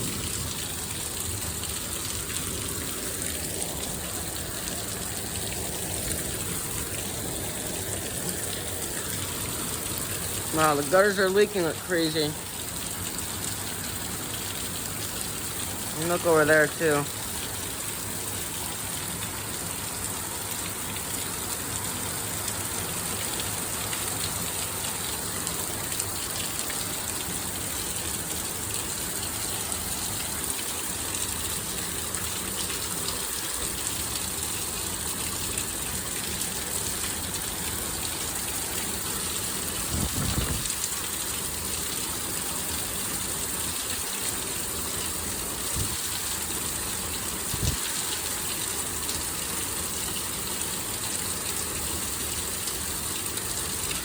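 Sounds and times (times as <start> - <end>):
heavy rain pouring: 0.0 - 54.0
water gushing from gutters: 0.0 - 54.0.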